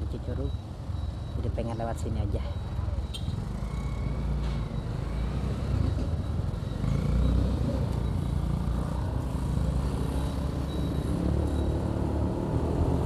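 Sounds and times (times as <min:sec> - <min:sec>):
road and traffic noise: 0:00.0 - 0:13.0.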